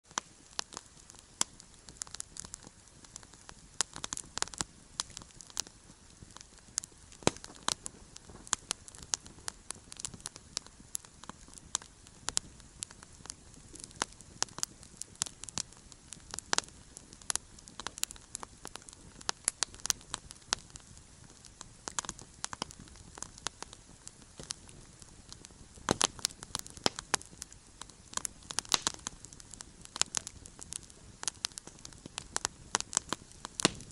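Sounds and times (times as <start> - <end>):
campfire crackling and popping: 0.0 - 33.9
faint hiss of burning: 0.0 - 33.9.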